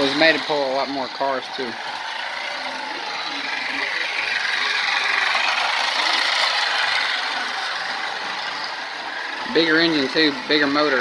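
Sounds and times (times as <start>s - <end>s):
toy train motor whirring: 0.0s - 11.0s
wheels clattering on toy track: 0.0s - 11.0s.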